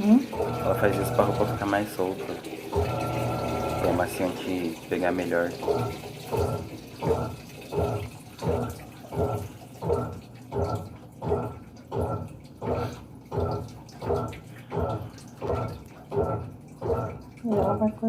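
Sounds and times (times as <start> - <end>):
washing machine water sloshing: 0.0 - 18.0.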